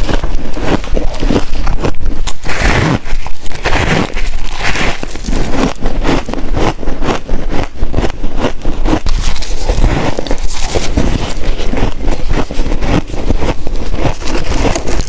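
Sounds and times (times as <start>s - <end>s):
chewing crunchy frost: 0.0s - 15.0s.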